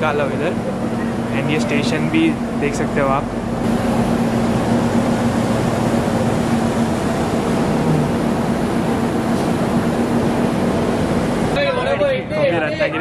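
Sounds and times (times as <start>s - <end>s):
train machinery hum: 0.0s - 13.0s.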